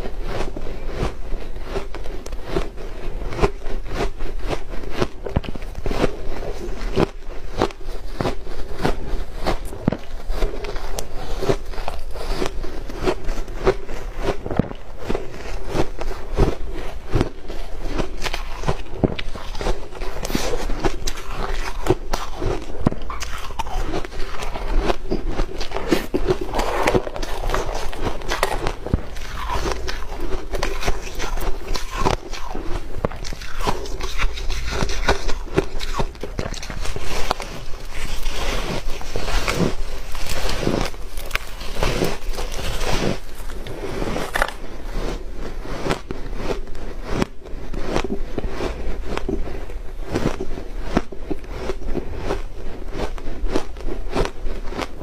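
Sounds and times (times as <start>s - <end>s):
crunching ice being chewed: 0.0s - 55.0s.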